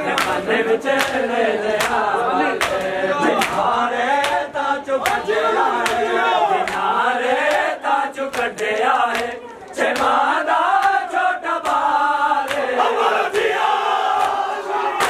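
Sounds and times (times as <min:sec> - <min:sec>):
men chanting in chorus: 0:00.0 - 0:15.0
hands slapping chests in unison: 0:00.1 - 0:15.0.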